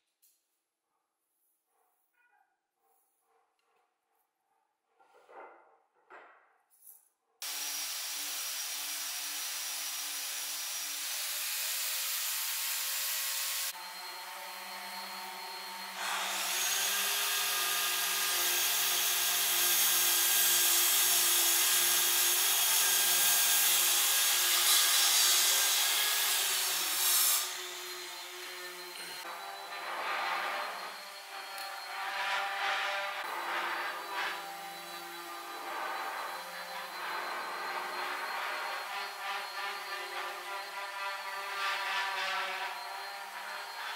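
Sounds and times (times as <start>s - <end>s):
power saw cutting wood: 7.4s - 43.9s.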